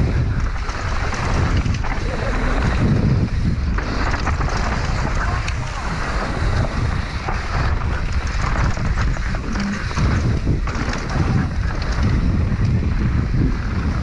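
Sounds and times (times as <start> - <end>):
bike clicks and rattles: 0.0 - 14.0
tyres rolling over dirt: 0.0 - 14.0
wind buffeting microphone: 0.0 - 14.0.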